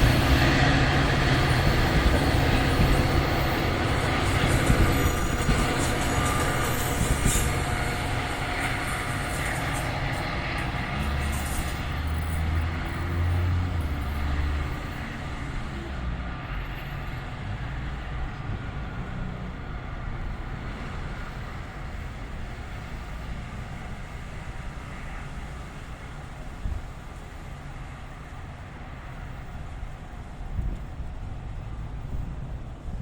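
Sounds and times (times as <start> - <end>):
train rumbling on rails: 0.0 - 33.0.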